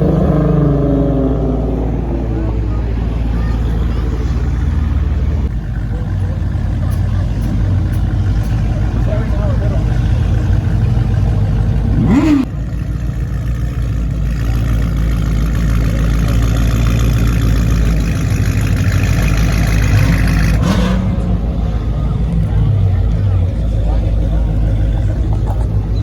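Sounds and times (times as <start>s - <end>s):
car engines idling and revving: 0.0s - 26.0s.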